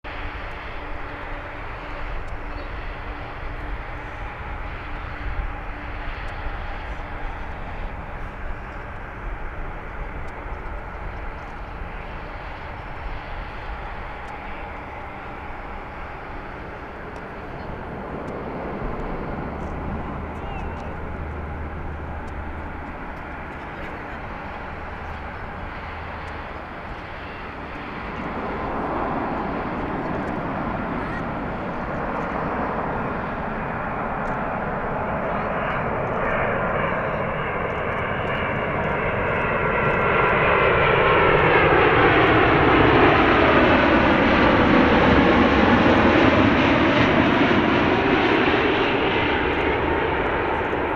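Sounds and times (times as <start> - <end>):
jet engines on approach: 0.0 - 50.9.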